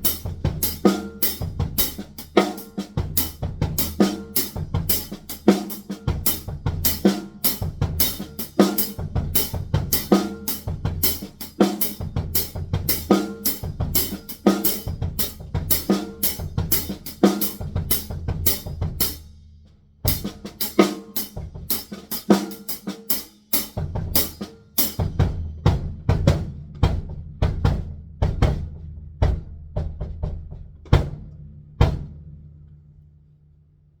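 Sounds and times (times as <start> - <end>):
drum kit groove: 0.0 - 32.7.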